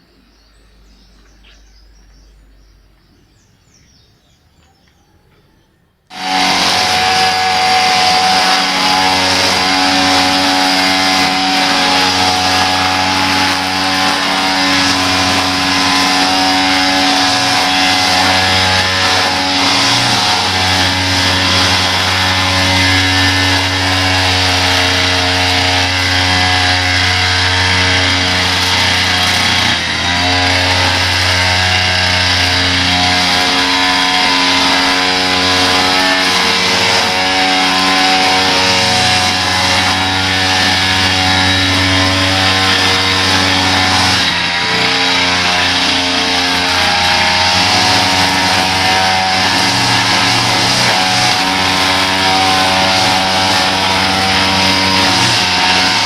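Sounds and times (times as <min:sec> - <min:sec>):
small petrol engine running: 0:06.1 - 0:56.0.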